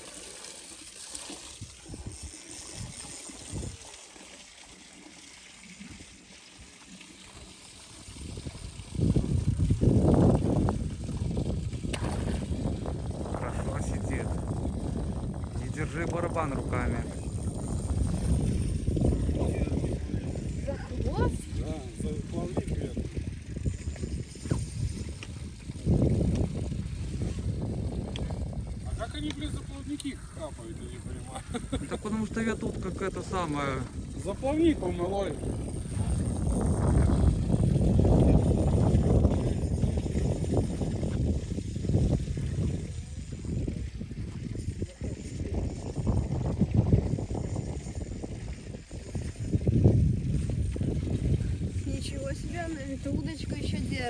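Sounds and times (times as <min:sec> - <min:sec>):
river water trickling: 0:00.0 - 0:54.0
wind buffeting microphone: 0:01.6 - 0:03.9, 0:08.0 - 0:54.0.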